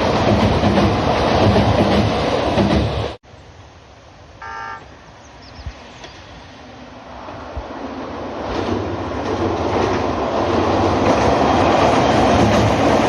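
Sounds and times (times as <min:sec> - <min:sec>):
train wheels rumbling on rails: 0:00.0 - 0:03.2, 0:05.7 - 0:13.0.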